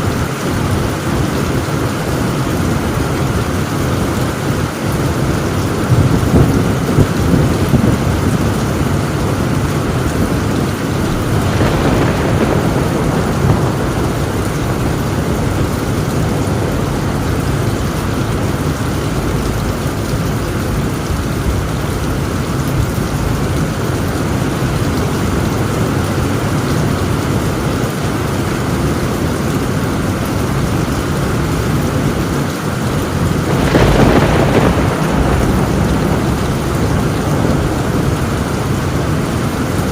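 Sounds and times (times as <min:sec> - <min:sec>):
heavy rain on a tin roof: 0:00.0 - 0:39.9
low rumble of thunder: 0:00.0 - 0:39.9.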